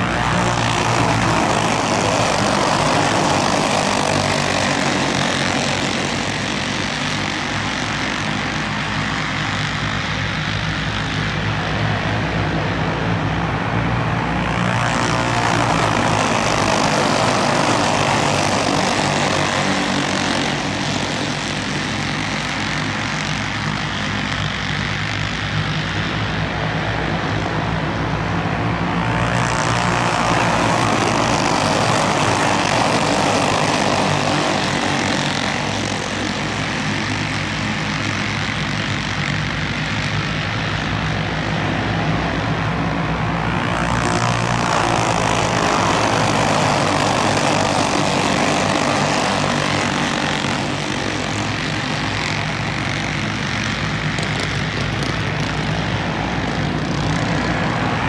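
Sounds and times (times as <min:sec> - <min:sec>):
racing kart engines droning: 0:00.0 - 0:58.0.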